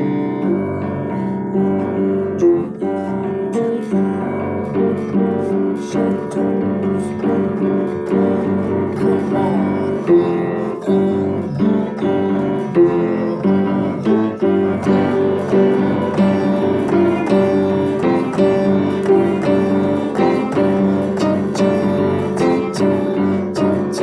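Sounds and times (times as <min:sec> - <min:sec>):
keyboard chords: 0:00.0 - 0:24.0.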